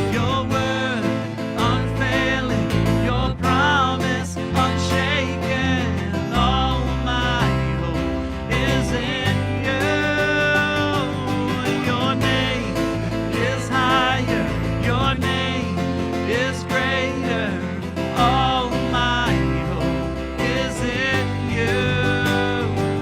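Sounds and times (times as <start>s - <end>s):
plucked guitar: 0.0s - 23.0s
steady bass: 0.0s - 23.0s.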